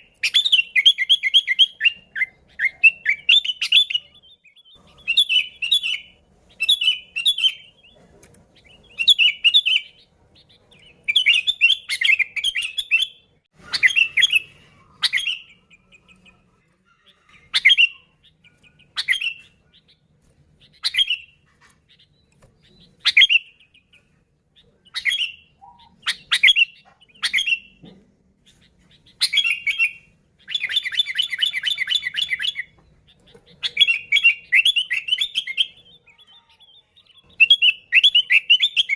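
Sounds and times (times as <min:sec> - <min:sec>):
bird calling: 0:00.0 - 0:38.9.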